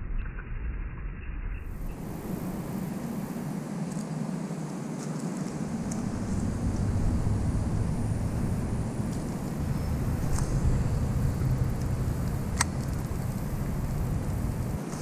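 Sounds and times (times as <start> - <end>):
low outdoor rumbling: 1.6 - 15.0.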